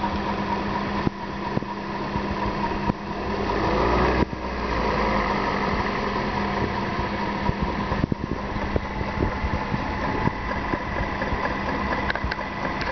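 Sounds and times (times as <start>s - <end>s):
car engine idling: 0.0s - 12.9s
engine ticking: 0.0s - 12.9s.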